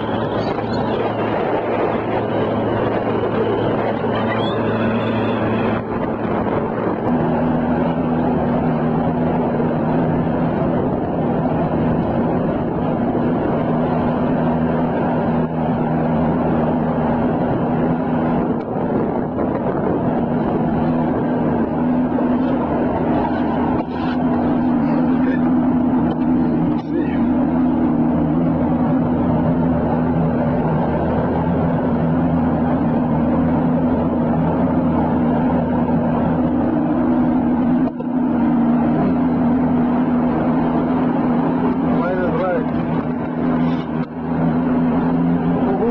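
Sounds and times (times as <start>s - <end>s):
motorboat engine running: 0.0s - 45.9s
wind and water rushing over hull: 0.0s - 45.9s.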